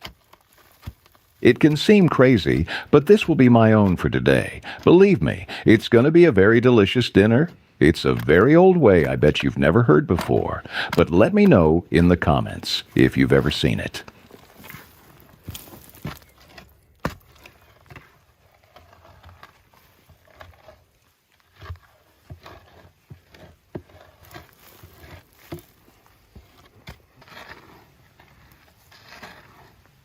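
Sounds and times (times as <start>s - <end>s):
earth being dug by hand: 0.0s - 30.0s.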